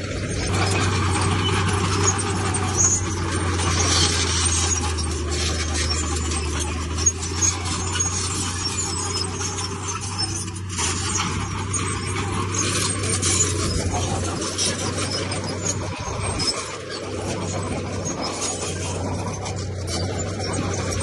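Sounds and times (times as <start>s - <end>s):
blade scraping through stone: 0.0s - 21.0s
bulldozer diesel engine running: 0.0s - 21.0s.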